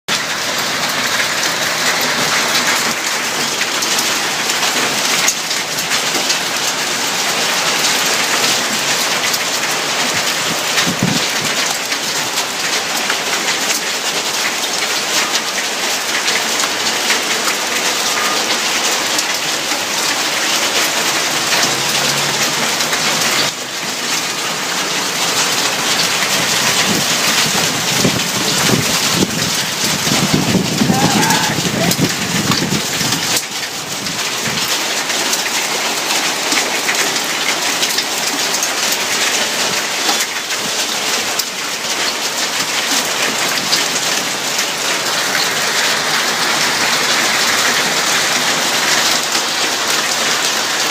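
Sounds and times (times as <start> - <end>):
hail and rain pelting down: 0.1 - 50.9.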